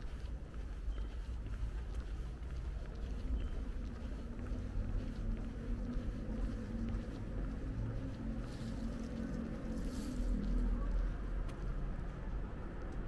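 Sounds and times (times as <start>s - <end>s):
distant traffic rumble: 0.0s - 13.0s
faint engine hum: 0.0s - 13.0s.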